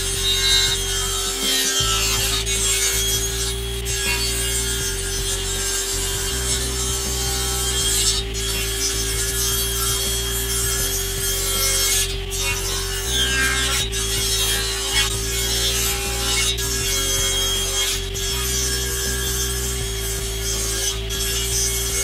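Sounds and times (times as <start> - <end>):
table saw cutting wood: 0.0 - 22.0.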